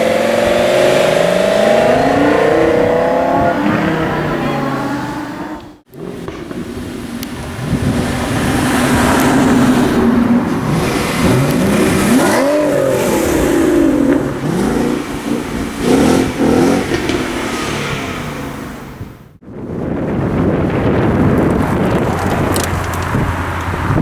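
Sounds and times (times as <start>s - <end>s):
car engine revving: 0.0s - 19.4s.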